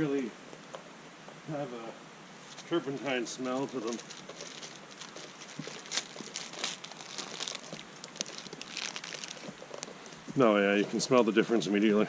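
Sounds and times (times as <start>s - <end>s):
tinder rustling and crackling: 0.4s - 11.4s.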